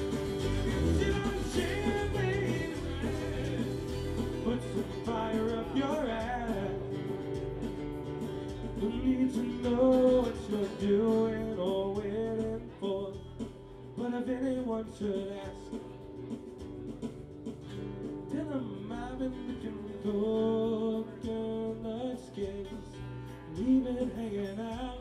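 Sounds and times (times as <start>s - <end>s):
live band playing country-rock: 0.0s - 25.0s.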